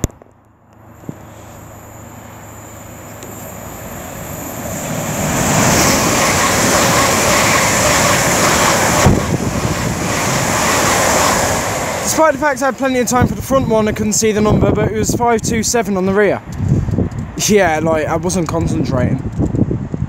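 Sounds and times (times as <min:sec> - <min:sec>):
train passing with rushing rumble: 0:00.8 - 0:20.0.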